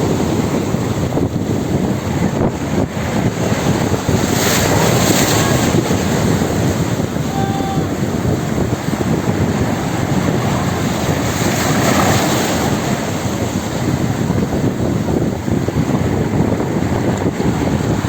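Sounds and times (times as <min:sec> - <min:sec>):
sea waves rushing: 0:00.0 - 0:18.0
wind buffeting microphone: 0:00.0 - 0:18.0.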